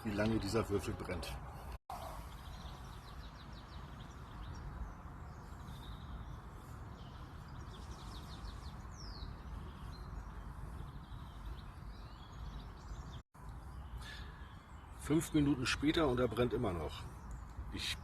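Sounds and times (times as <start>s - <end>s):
low outdoor background noise: 0.0s - 18.0s
small birds chirping: 0.0s - 18.0s.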